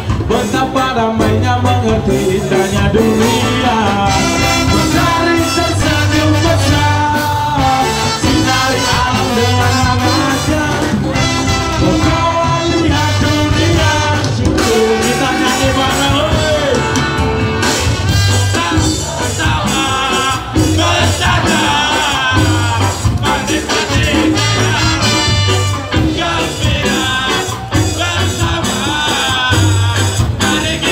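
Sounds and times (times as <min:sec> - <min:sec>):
live ska band playing: 0:00.0 - 0:30.9.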